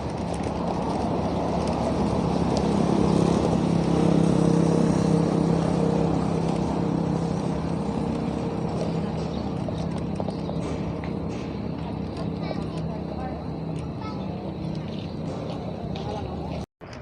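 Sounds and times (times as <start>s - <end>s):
road and wind noise: 0.0s - 17.0s
vehicle engine passing: 0.0s - 17.0s.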